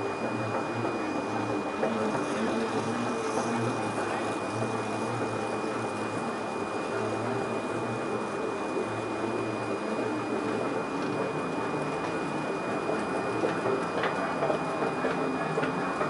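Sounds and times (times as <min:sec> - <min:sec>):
moving walkway humming: 0:00.0 - 0:16.0.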